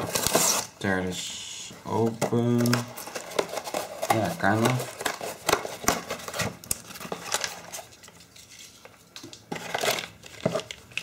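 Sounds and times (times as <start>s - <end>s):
packaging tearing and crinkling: 0.0s - 0.7s, 2.6s - 11.0s.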